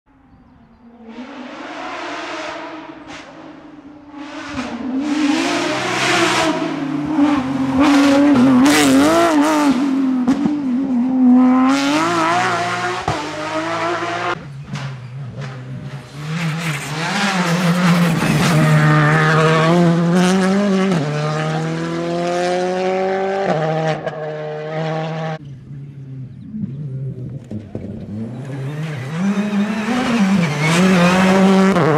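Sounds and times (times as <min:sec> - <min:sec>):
rally cars passing at high revs: 0:00.8 - 0:31.9.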